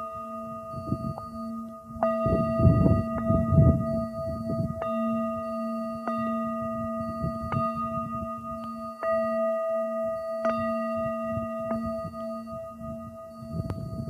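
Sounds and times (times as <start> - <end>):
low wind rumble: 0.0 - 9.4, 10.0 - 14.0
metal singing bowl ringing: 0.0 - 14.0.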